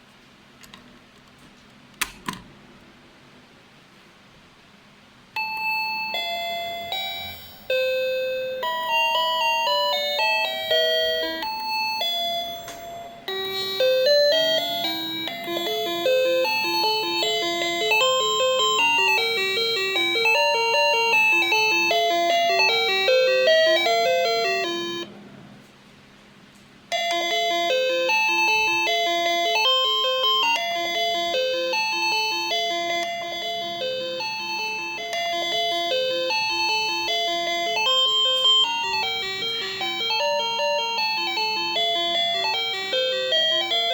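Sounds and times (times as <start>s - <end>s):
doorbell chime tunes: 5.4s - 25.1s, 26.9s - 43.9s.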